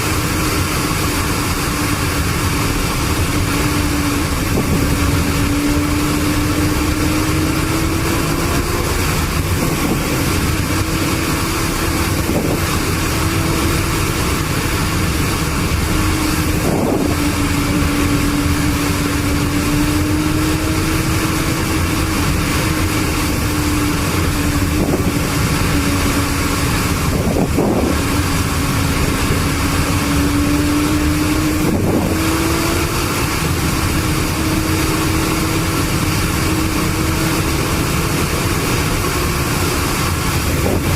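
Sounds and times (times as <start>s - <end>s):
road and wind noise: 0.0s - 40.9s
vehicle engine cruising: 0.0s - 40.9s.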